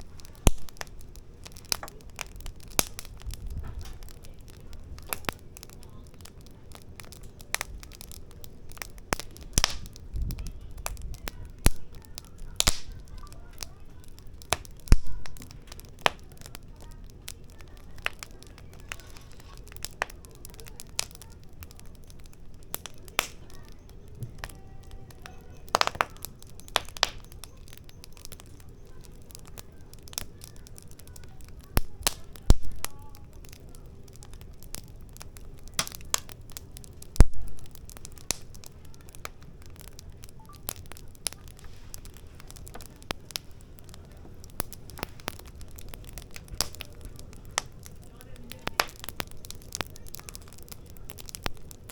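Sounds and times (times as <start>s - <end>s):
firewood crackling and popping: 0.0s - 51.9s
low steady background: 0.0s - 51.9s.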